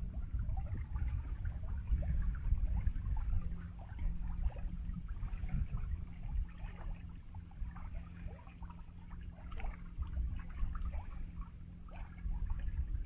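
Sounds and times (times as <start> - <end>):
low rumble: 0.0 - 13.0
water gurgling along a hull: 0.0 - 13.0.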